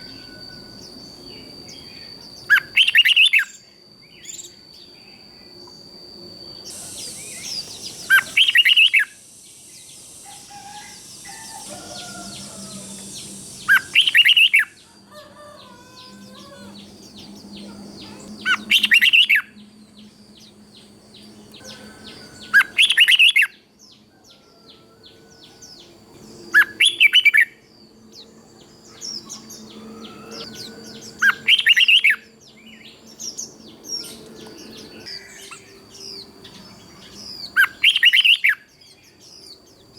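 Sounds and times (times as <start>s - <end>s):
bird song phrases: 0.0s - 39.9s
faint bird chirps: 0.0s - 39.9s.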